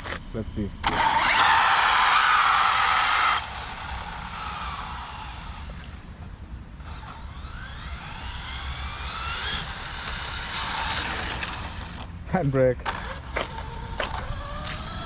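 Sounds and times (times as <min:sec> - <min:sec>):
electric motor whine rising: 0:00.8 - 0:06.2, 0:06.8 - 0:12.1, 0:12.8 - 0:15.0
low drivetrain rumble: 0:00.8 - 0:15.0.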